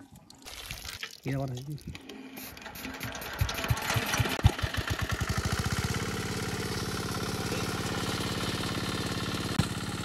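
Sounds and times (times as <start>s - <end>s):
water pump engine running: 1.9s - 10.0s.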